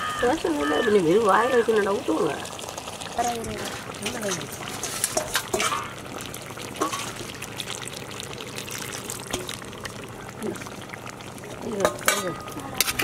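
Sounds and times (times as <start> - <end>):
gravy bubbling in a pot: 0.0 - 13.0
ladle pouring liquid: 1.2 - 13.0.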